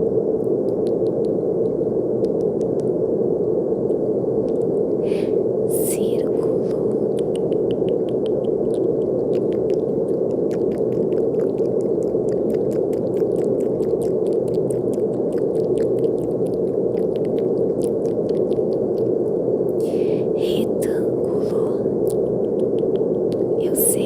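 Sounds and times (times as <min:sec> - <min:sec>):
brown noise hiss: 0:00.0 - 0:24.0.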